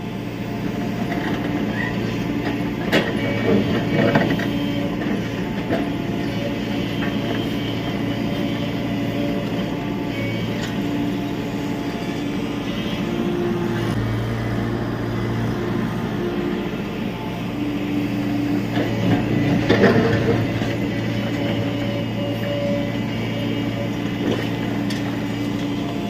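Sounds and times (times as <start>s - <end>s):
excavator diesel engine under load: 0.0s - 26.0s.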